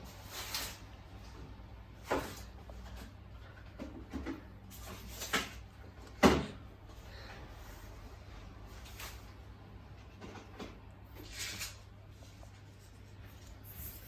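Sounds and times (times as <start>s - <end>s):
washing machine hum: 0.0s - 14.0s.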